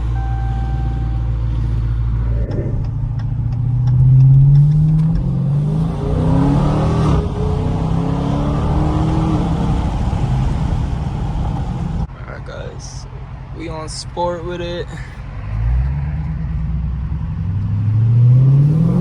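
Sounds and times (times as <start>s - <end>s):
car engine accelerating hard: 0.0s - 12.1s, 15.4s - 19.0s.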